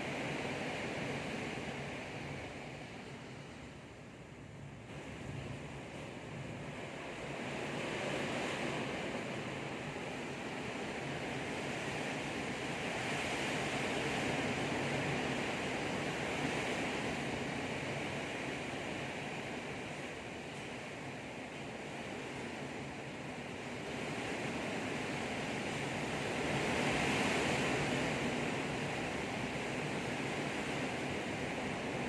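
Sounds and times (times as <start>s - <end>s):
heavy rain in strong wind: 0.0s - 32.0s.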